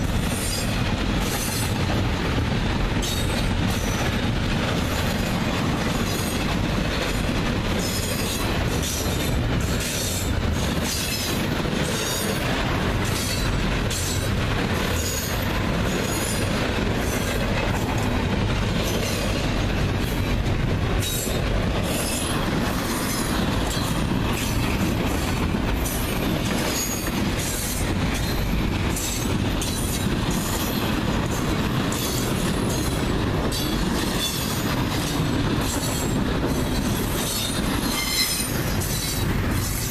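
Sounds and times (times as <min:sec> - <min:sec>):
train wheels rumbling on rail: 0:00.0 - 0:39.9
wheels clattering over rail joints: 0:00.0 - 0:39.9.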